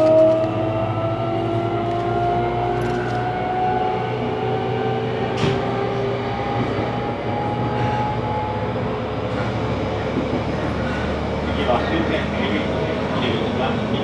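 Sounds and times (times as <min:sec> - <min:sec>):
train rumble and whine: 0:00.0 - 0:14.0.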